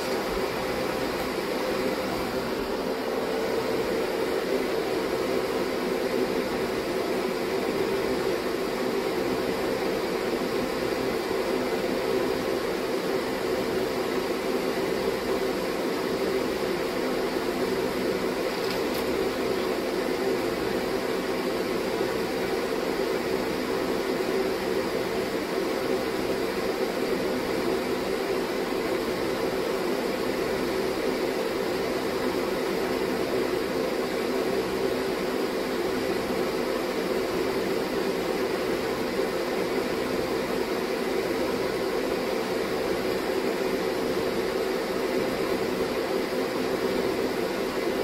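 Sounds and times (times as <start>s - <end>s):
fan-like machine whir: 0.0s - 48.0s.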